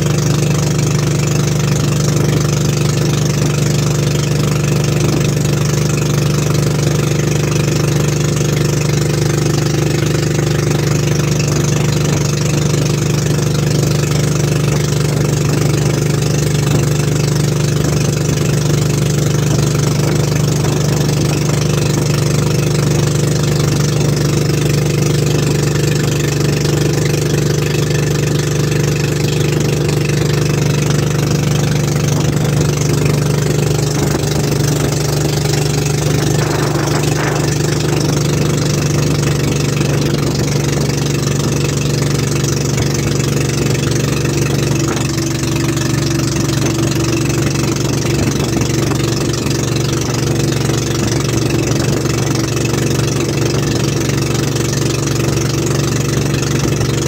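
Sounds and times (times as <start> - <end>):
motorboat engine drone: 0.0 - 57.0.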